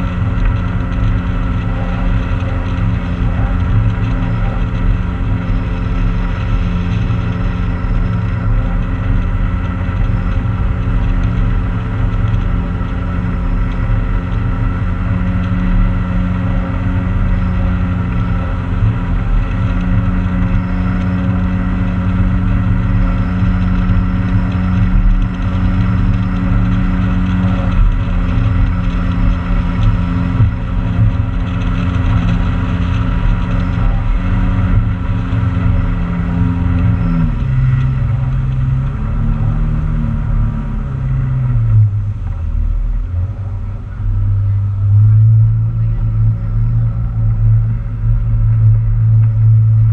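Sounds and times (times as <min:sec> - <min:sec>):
motorboat engine running: 0:00.0 - 0:49.9.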